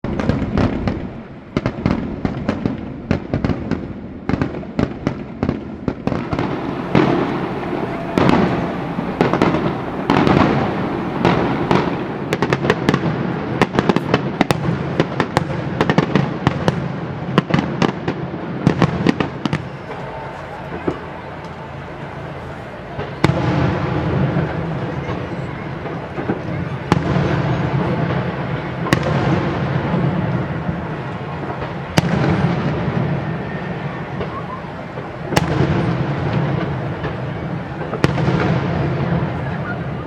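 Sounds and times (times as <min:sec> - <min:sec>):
fireworks cracking and popping: 0:00.0 - 0:40.0
rumble of firework bursts: 0:00.0 - 0:40.0.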